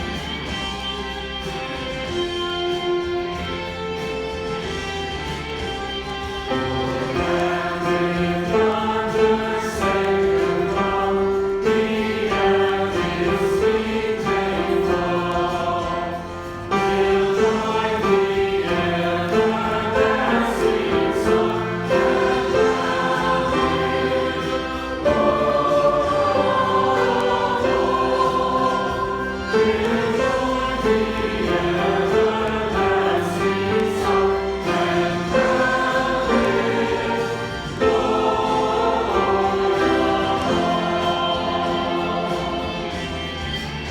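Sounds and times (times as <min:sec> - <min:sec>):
instrumental accompaniment: 0:00.0 - 0:43.9
choir and congregation singing hymn: 0:05.6 - 0:43.9.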